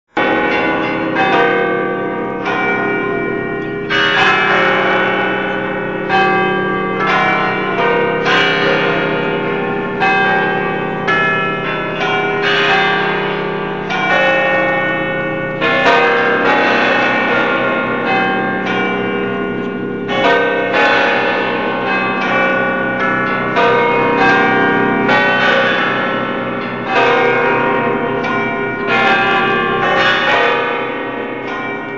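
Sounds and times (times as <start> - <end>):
church bells ringing: 0.1 - 31.9.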